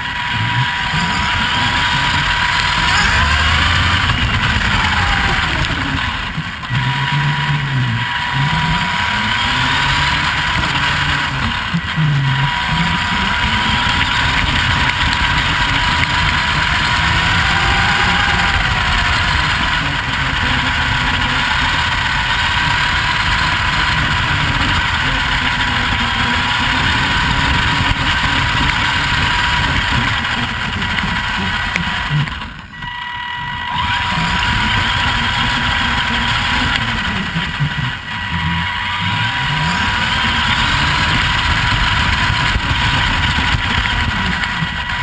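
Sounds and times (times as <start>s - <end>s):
tyres rumbling on gravel: 0.0s - 32.7s, 33.8s - 45.0s
electric motor and gears whining: 0.0s - 45.0s
wind: 0.0s - 45.0s.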